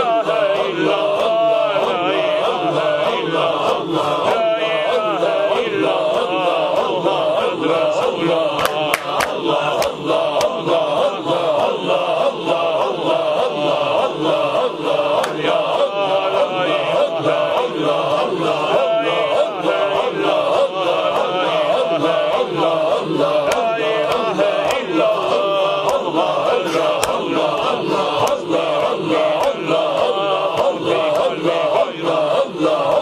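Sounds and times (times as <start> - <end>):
men chanting together: 0.0 - 33.0.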